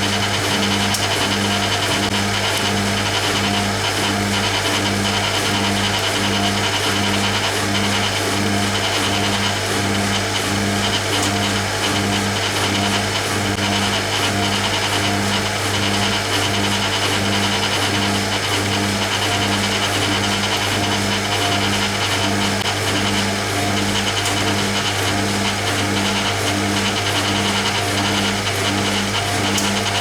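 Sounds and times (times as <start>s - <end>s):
washing machine pulsing motor hum: 0.0s - 30.0s.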